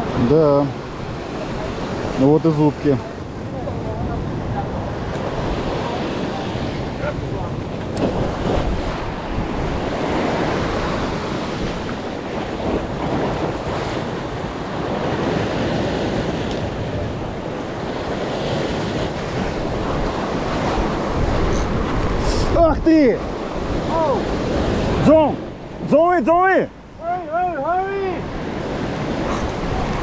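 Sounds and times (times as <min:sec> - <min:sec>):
wind buffeting microphone: 0:00.0 - 0:26.0, 0:26.7 - 0:30.0
ocean surf breaking on rocks: 0:00.0 - 0:30.0.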